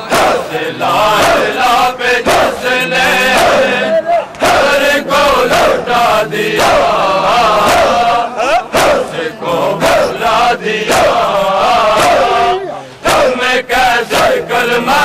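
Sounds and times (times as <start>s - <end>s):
men chanting in chorus: 0.0s - 15.0s
sharp rhythmic beats: 0.0s - 15.0s.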